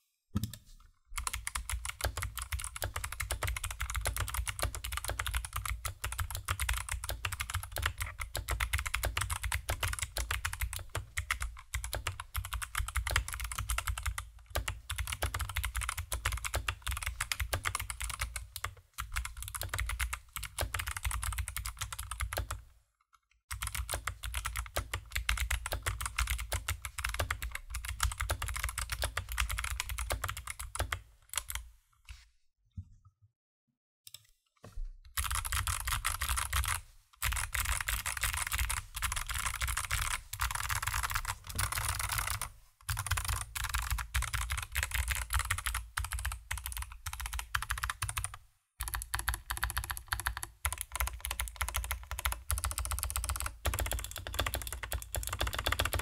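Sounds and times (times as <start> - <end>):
fast typing on mechanical keyboard: 1.2 - 22.6, 23.5 - 31.6, 35.2 - 56.0.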